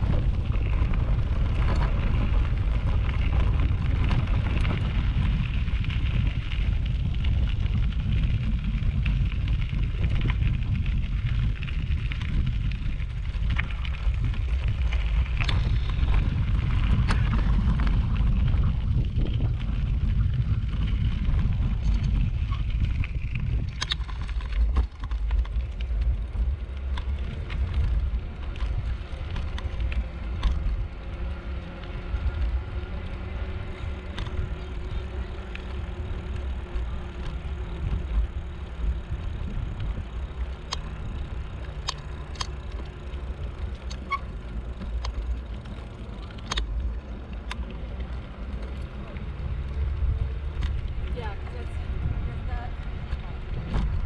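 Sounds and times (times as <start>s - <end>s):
bike clicks and rattles: 0.0s - 54.0s
wind rumbling on microphone: 0.0s - 54.0s.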